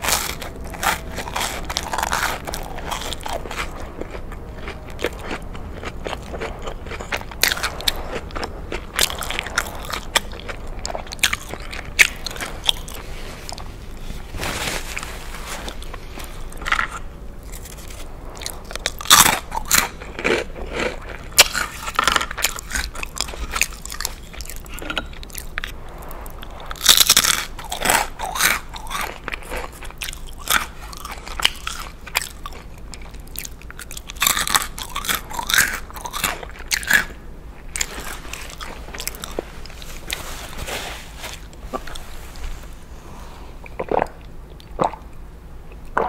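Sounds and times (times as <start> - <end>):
crunchy sandwich chewing: 0.0 - 44.6.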